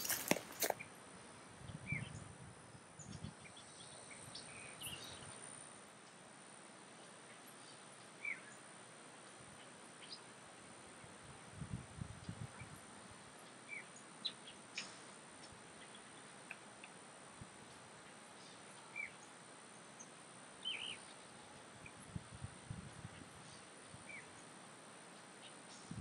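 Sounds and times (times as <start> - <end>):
faint high-pitched hiss: 0.0 - 26.0.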